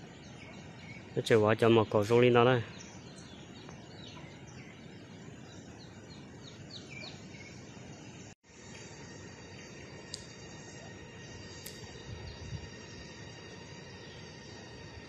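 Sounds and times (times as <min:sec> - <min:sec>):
bird chirping: 0:00.0 - 0:15.0
rural outdoor ambience: 0:00.0 - 0:15.0.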